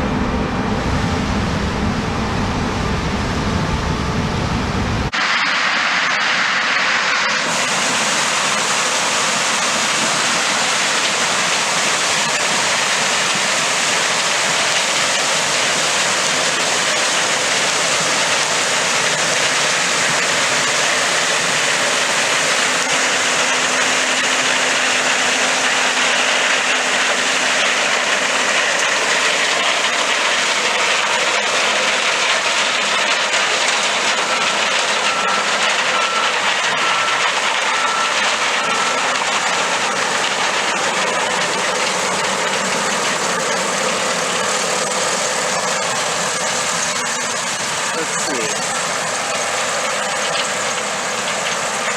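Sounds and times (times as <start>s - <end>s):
harvest machinery running: 0.0s - 51.9s.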